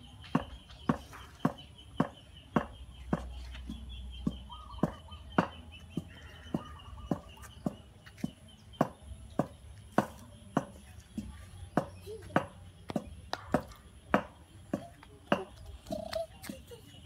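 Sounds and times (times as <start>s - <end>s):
steady beat of sharp knocks: 0.3s - 16.1s.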